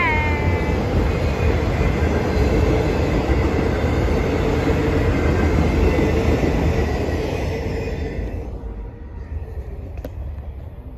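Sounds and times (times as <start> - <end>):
train wheels rumbling on rail: 0.0 - 10.9.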